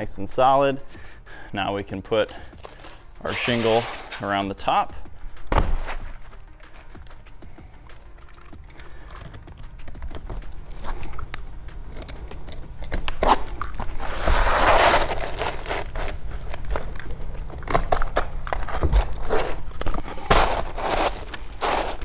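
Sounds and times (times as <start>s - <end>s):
gritty crunching and scraping: 1.7s - 22.0s.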